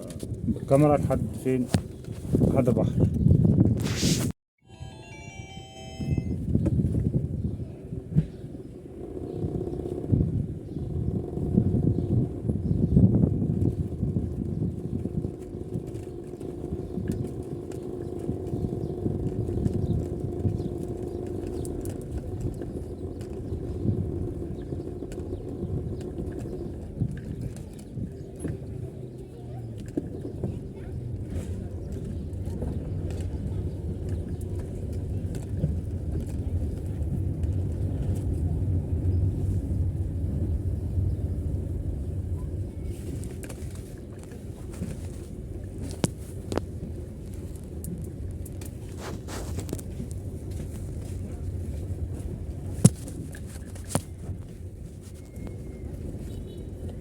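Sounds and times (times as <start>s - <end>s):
low hum of traffic: 0.0s - 3.7s, 4.7s - 57.0s
steady low street rumble: 0.0s - 57.0s.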